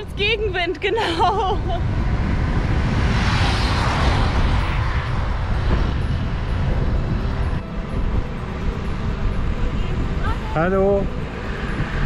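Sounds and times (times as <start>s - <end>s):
car passing: 0.0s - 12.0s
wind buffeting microphone: 0.0s - 12.0s.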